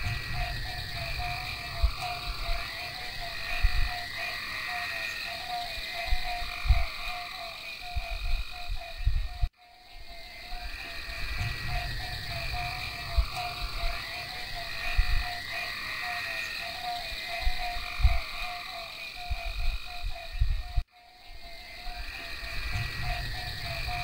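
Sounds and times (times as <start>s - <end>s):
frogs croaking: 0.0s - 24.0s.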